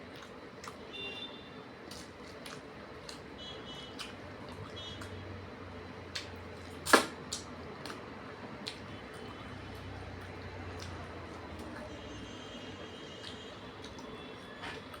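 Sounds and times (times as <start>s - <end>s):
chewing and lip-smacking: 0.0s - 5.3s, 6.1s - 15.0s.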